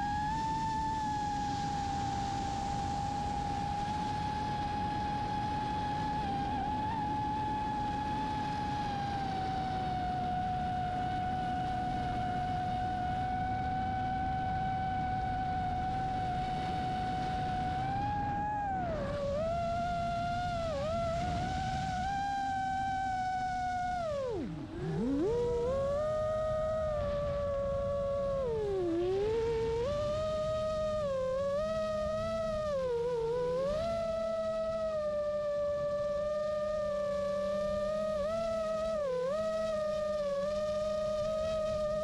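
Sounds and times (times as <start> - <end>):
drone motors whining: 0.0 - 42.0.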